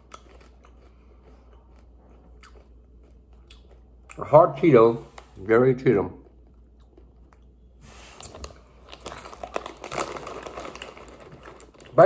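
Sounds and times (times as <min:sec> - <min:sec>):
crunchy chewing of corn puffs: 0:00.0 - 0:04.3, 0:06.2 - 0:12.0.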